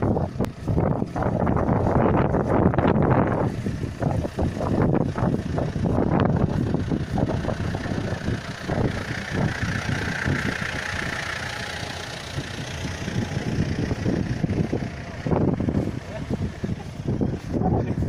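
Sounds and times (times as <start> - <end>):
car engines idling: 0.0 - 18.0
wind on microphone: 0.0 - 18.0.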